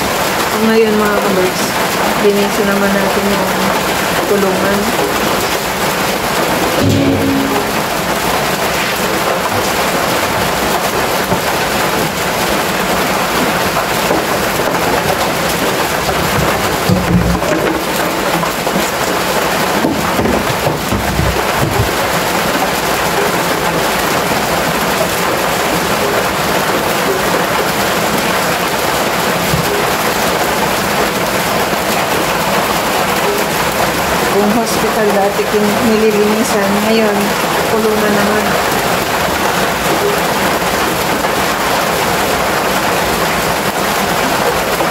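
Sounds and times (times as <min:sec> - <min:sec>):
heavy rain on a metal roof: 0:00.0 - 0:44.9.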